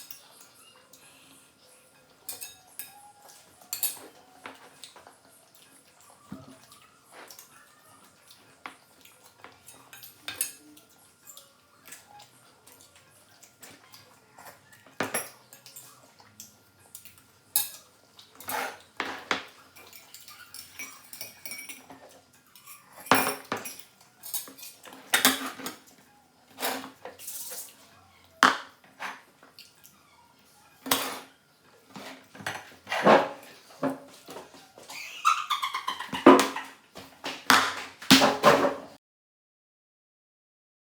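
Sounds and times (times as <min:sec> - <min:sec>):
metal utensils clinking on dishes: 0:00.0 - 0:30.0, 0:30.6 - 0:38.9.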